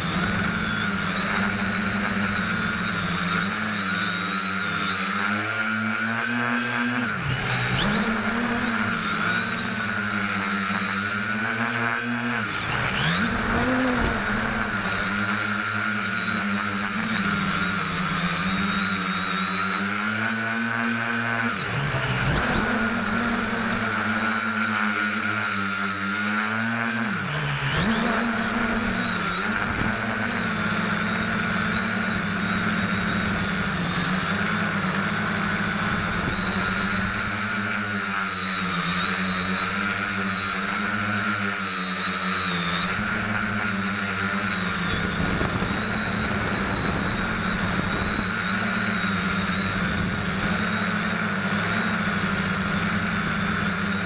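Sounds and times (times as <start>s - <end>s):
quadcopter propellers whirring: 0.0s - 54.0s.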